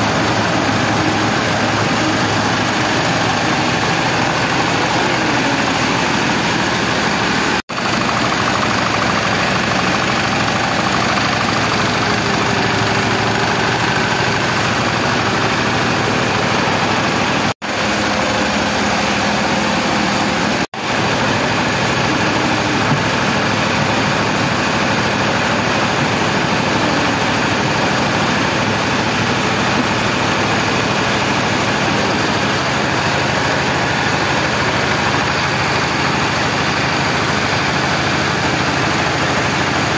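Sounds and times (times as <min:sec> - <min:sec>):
grain pouring through machines: 0:00.0 - 0:39.9
rice mill machinery running: 0:00.0 - 0:39.9.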